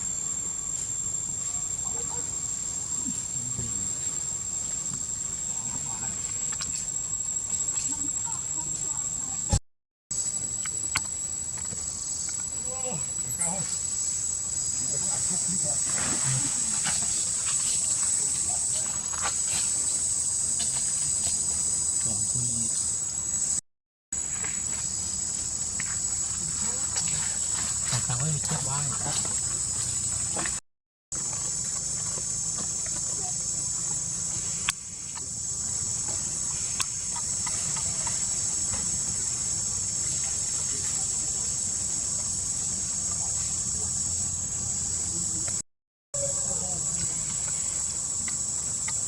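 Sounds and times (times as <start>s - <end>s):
insect chorus: 0.0s - 23.6s, 24.2s - 45.6s, 46.2s - 49.0s.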